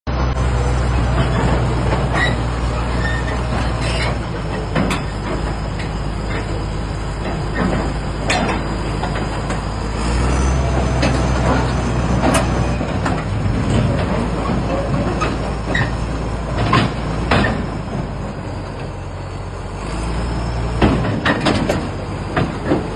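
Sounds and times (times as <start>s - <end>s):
excavator diesel engine running: 0.1s - 22.9s.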